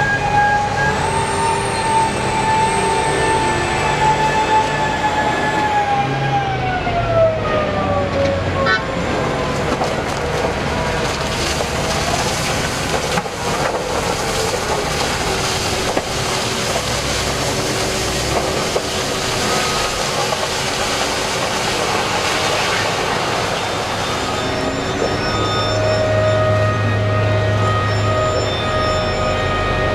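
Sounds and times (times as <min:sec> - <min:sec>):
heavy machinery engine running: 0:00.0 - 0:29.9.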